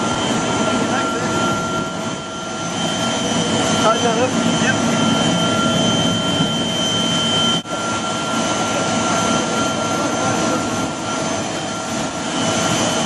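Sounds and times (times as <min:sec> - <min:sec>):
aircraft turbine whine and rumble: 0:00.0 - 0:13.0.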